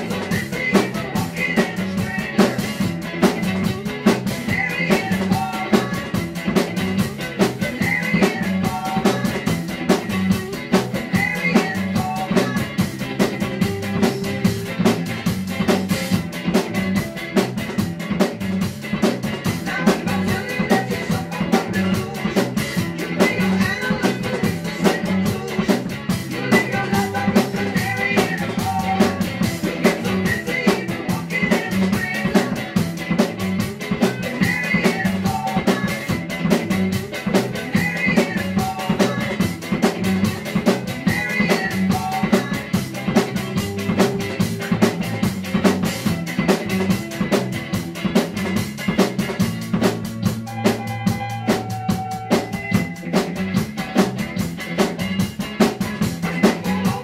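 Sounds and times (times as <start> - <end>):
drum kit playing: 0.0 - 57.0
rock song playing: 0.0 - 57.0.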